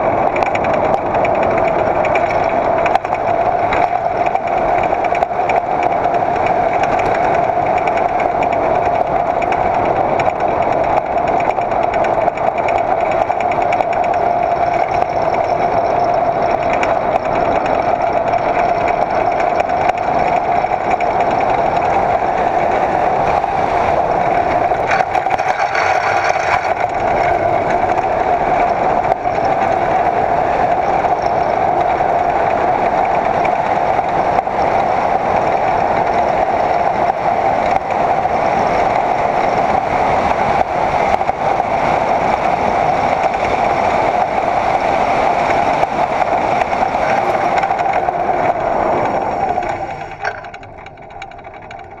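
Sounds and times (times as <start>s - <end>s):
wheels rumbling on asphalt: 0.0s - 52.0s.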